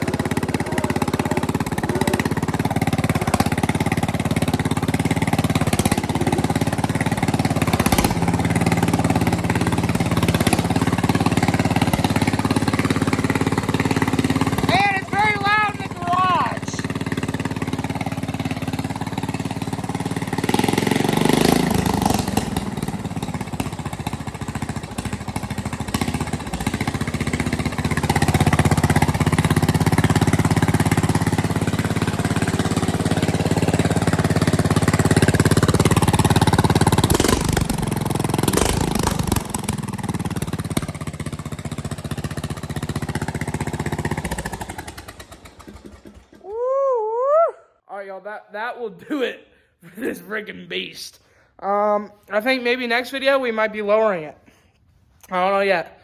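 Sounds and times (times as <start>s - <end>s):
lawn tractor engine running: 0.0s - 46.6s.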